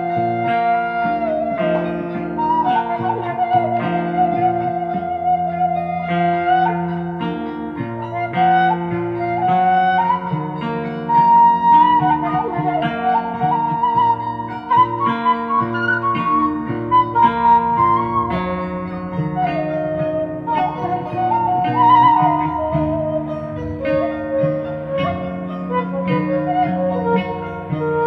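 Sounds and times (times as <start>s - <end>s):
instrumental music: 0.0s - 28.0s.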